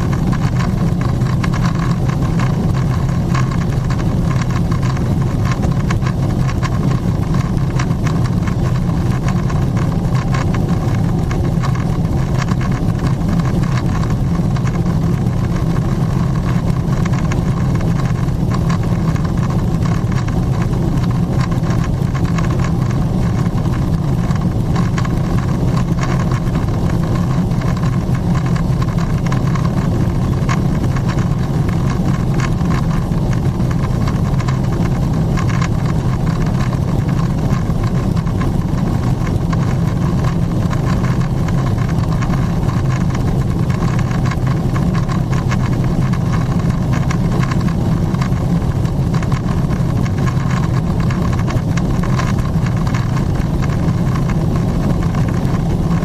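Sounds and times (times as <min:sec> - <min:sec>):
jet engine drone: 0:00.0 - 0:56.0.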